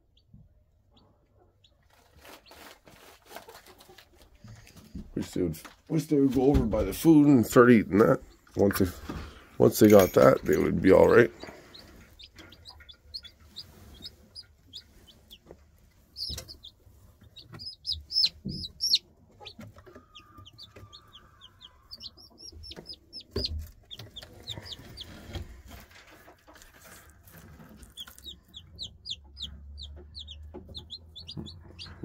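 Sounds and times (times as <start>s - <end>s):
chicks peeping: 0.0s - 5.0s, 6.8s - 32.0s.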